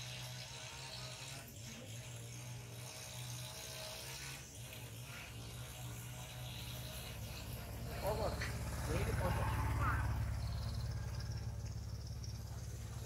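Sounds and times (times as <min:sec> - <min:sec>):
small motorbike engine: 0:00.0 - 0:13.0.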